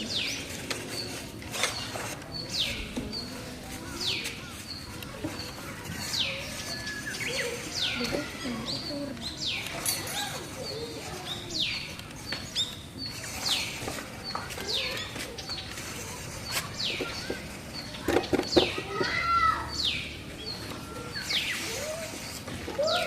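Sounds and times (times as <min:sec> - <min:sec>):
bird calling with falling notes: 0:00.0 - 0:23.0.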